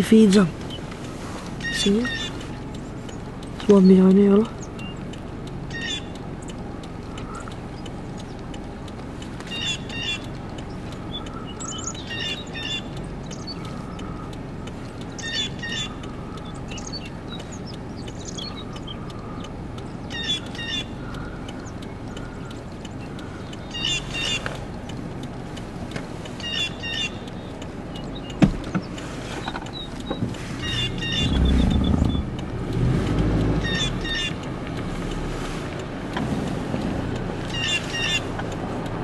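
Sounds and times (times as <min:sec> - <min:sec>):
small birds chirping: 0:00.0 - 0:36.2, 0:37.0 - 0:39.0
steady low rumble: 0:00.0 - 0:39.0.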